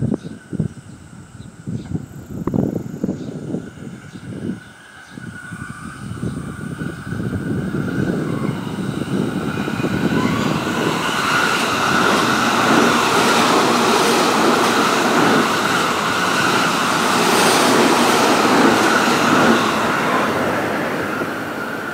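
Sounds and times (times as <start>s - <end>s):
train passing wheel and rail noise: 0.0s - 21.9s.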